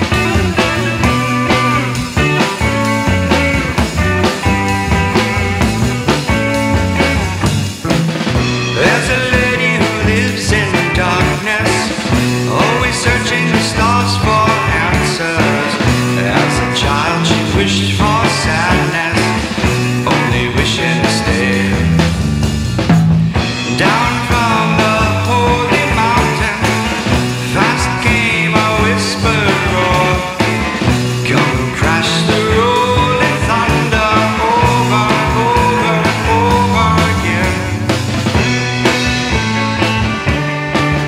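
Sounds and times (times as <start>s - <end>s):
heavy psychedelic rock music: 0.0s - 41.0s.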